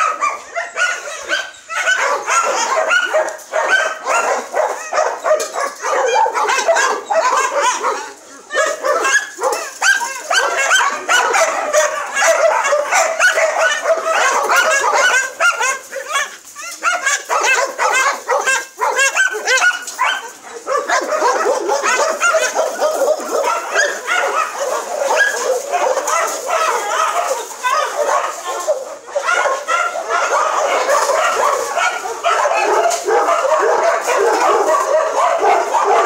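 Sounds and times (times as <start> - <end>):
dogs barking and yipping: 0.0 - 36.0.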